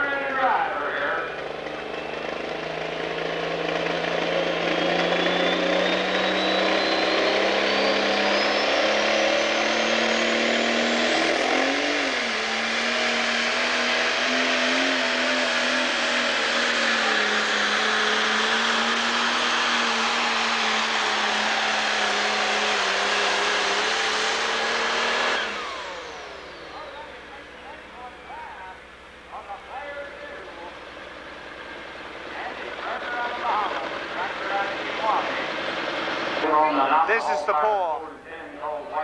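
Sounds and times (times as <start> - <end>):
diesel engine at high revs: 0.0 - 39.0
high turbo whine: 0.0 - 39.0.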